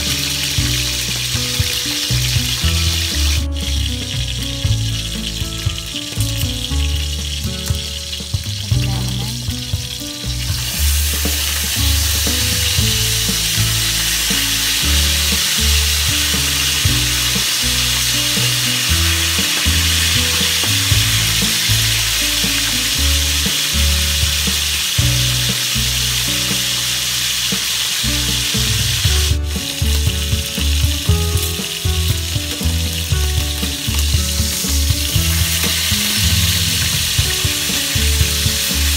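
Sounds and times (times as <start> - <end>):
background music with bass: 0.0 - 38.9
fish frying in oil: 0.0 - 38.9.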